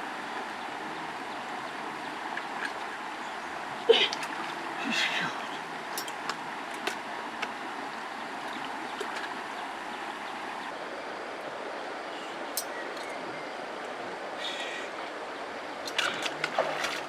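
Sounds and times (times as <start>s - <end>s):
shallow river water flowing: 0.0s - 17.0s.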